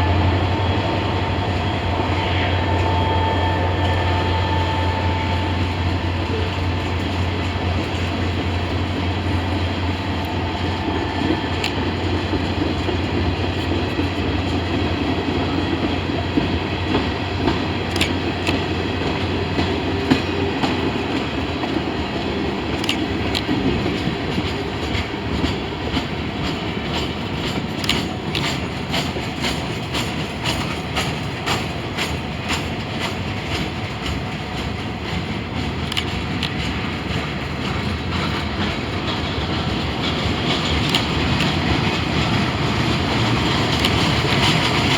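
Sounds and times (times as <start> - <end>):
diesel locomotive rumble: 0.0 - 44.9
train wheels clickety-clack: 0.0 - 44.9.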